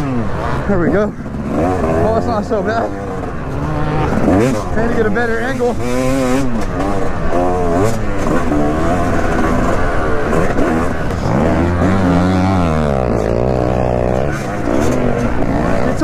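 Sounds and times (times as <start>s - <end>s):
motocross engine revving: 0.0s - 16.0s.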